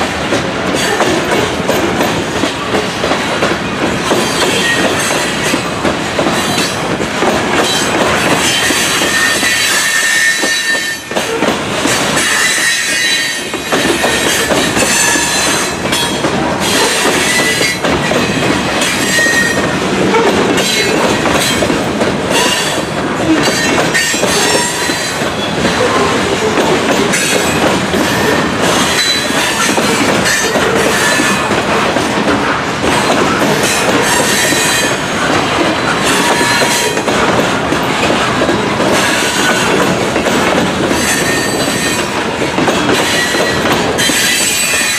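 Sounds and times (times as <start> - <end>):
train wheels clattering over rail joints: 0.0 - 44.9.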